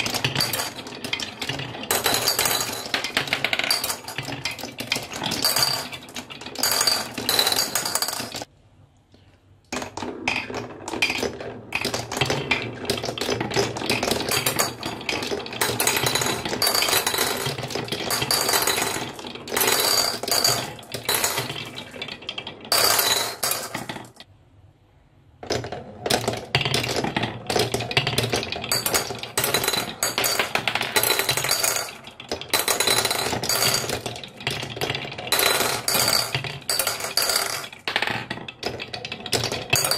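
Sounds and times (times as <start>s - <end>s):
glass marbles rattling on wooden tracks: 0.0s - 8.5s, 9.7s - 24.2s, 25.4s - 39.9s.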